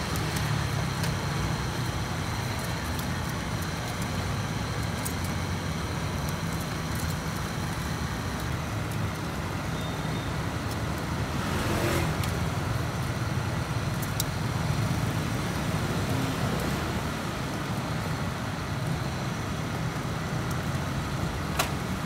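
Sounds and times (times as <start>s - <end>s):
low traffic rumble: 0.0s - 22.0s
meat sizzling on a grill: 0.0s - 22.0s.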